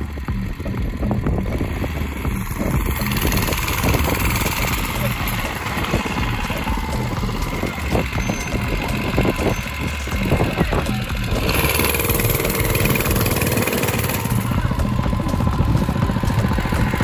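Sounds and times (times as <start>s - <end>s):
small single-cylinder engine running: 0.0s - 17.0s.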